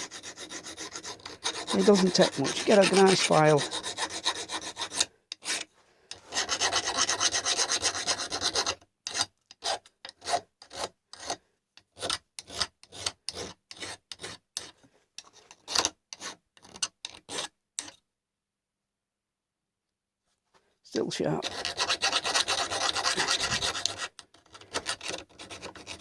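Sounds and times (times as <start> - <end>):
hand file rasping on metal: 0.0 - 18.0, 21.4 - 26.0.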